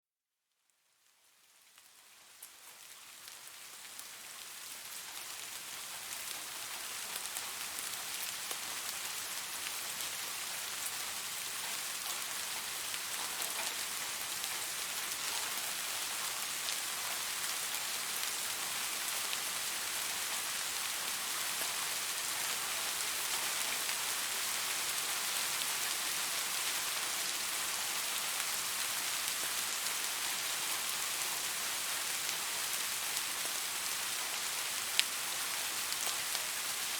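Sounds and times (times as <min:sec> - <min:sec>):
rain falling on leaves: 0:00.5 - 0:36.9.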